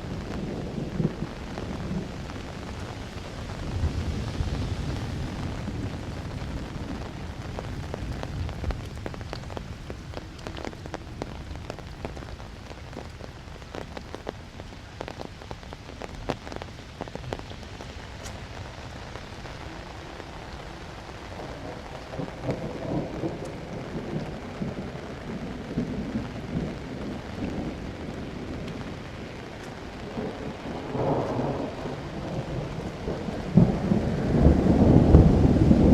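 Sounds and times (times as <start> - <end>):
low rumble of thunder: 0.0 - 13.2, 15.8 - 35.9
raindrops ticking close by: 0.0 - 35.9
steady rain: 0.0 - 35.9.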